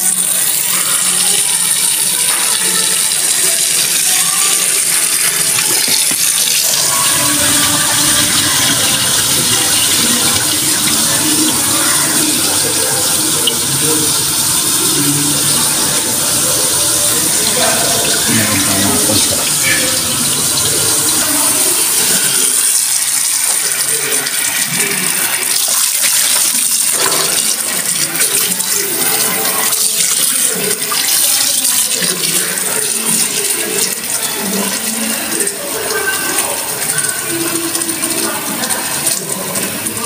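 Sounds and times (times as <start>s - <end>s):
tap water pouring into sink: 0.0s - 40.0s.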